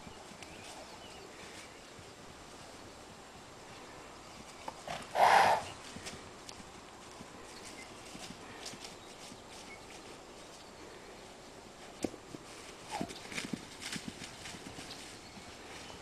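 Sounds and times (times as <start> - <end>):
horse hooves thudding on ground: 0.0 - 16.0.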